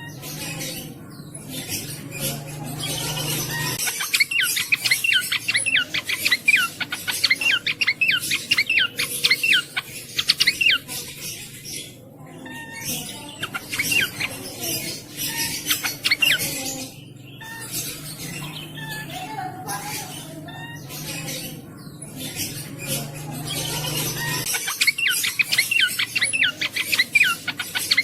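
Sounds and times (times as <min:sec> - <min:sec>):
songbird singing: 0:00.0 - 0:28.0.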